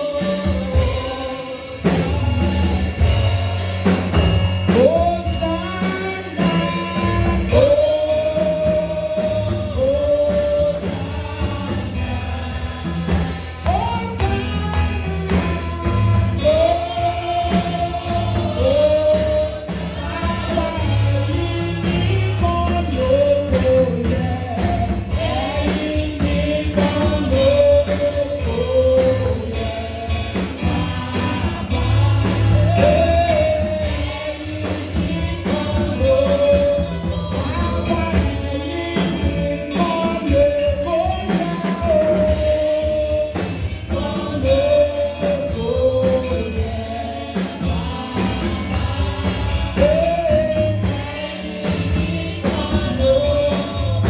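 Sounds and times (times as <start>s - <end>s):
band with bass and beat: 0.0s - 54.0s
gospel voices singing: 0.0s - 54.0s.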